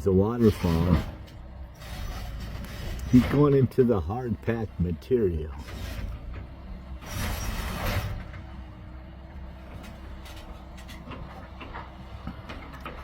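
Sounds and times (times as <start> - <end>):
excavator diesel engine hum: 0.0 - 13.0.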